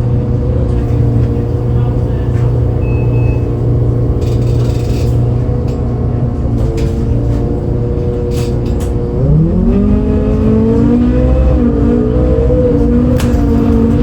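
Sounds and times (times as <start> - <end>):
bus diesel engine revving: 0.0 - 14.0.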